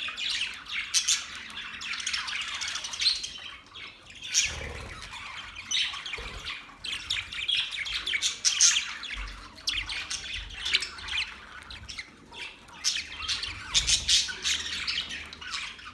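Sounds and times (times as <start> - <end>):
budgerigars chirping and squawking: 0.0 - 15.9.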